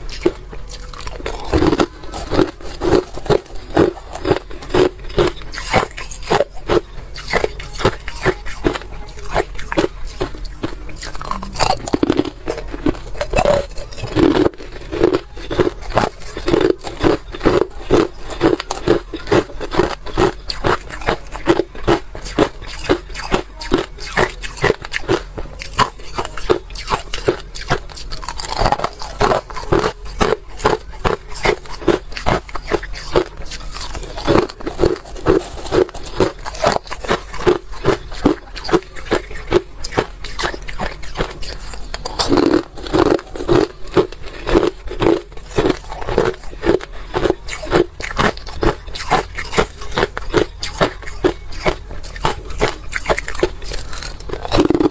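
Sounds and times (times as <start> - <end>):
crunching ice being chewed: 0.0 - 54.9.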